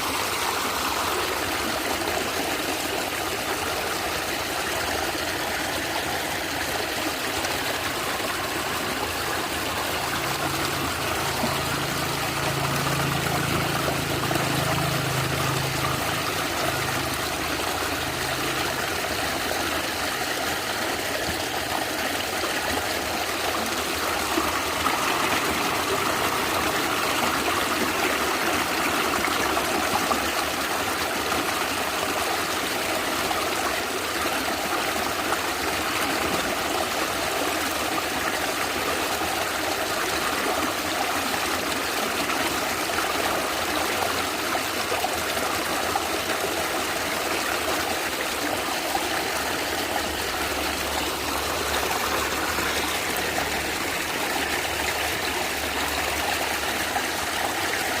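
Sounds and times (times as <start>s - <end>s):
stream gurgling over stones: 0.0s - 58.0s.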